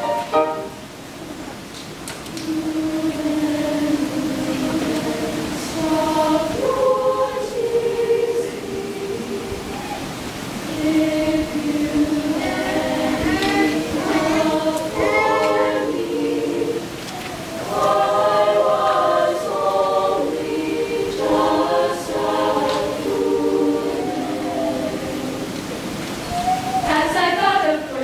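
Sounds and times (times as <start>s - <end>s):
girls' choir singing: 0.0s - 0.9s, 2.4s - 28.0s.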